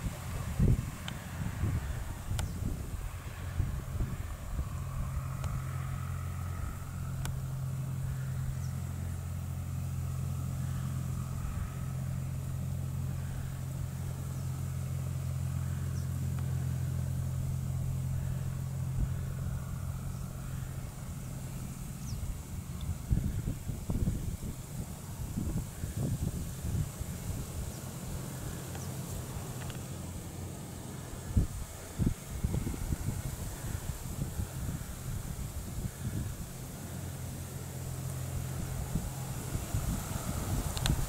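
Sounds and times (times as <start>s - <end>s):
low engine drone: 0.0s - 41.0s.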